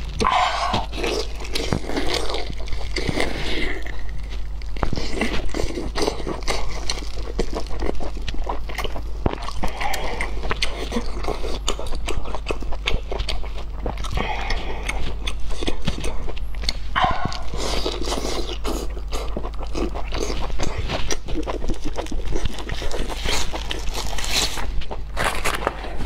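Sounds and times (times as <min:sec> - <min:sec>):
chewing and wet smacking: 0:00.2 - 0:25.0.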